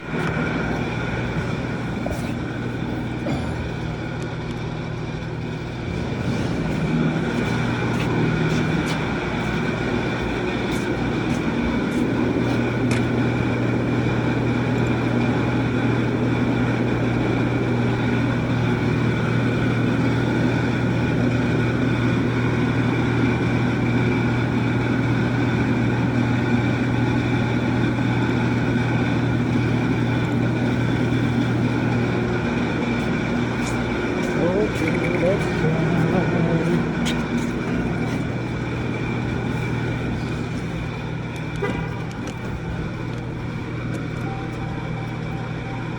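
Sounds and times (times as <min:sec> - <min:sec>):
pickup truck engine running: 0:00.0 - 0:45.9.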